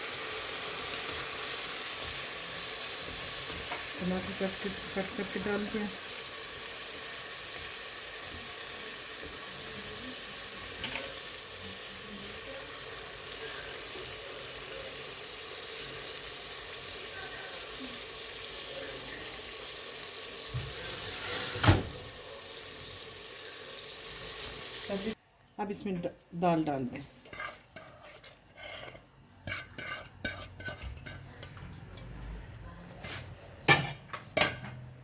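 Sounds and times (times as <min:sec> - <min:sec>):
food sizzling in hot oil: 0:00.0 - 0:31.3.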